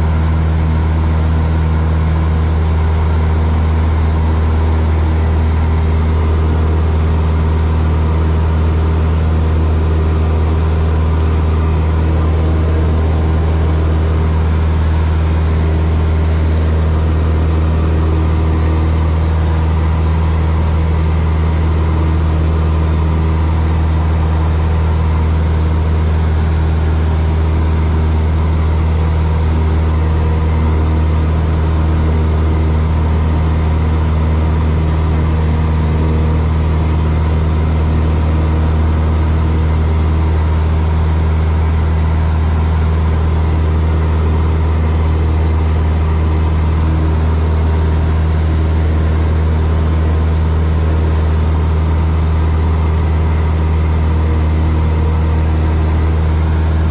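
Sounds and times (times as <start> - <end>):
propeller plane engine in flight: 0.0 - 56.9.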